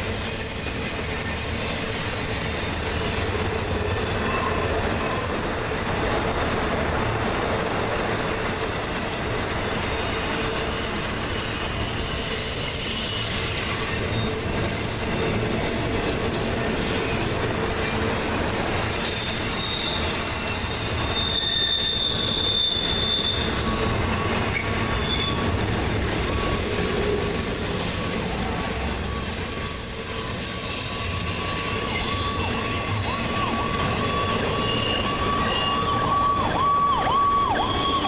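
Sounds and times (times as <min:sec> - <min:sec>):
wheel flanges squealing: 0:00.0 - 0:06.2, 0:07.8 - 0:38.0
train wheels rumbling on rail: 0:00.0 - 0:38.0.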